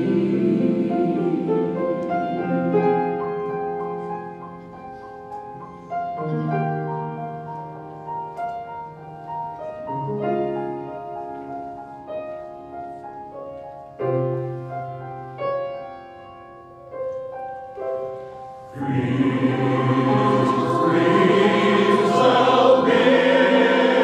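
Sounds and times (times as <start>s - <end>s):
piano playing: 0.0s - 24.0s.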